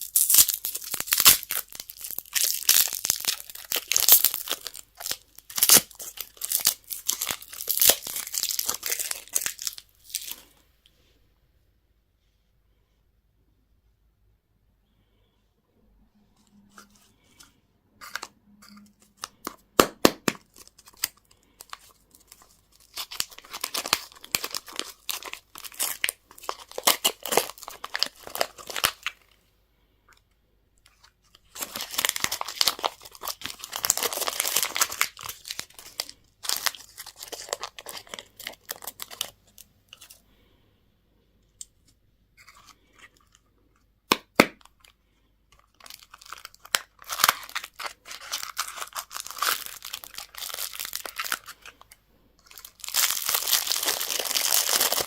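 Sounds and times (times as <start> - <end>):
candy wrappers crinkling and tearing: 0.0 - 10.6, 16.7 - 29.4, 30.9 - 40.2, 41.6 - 55.0.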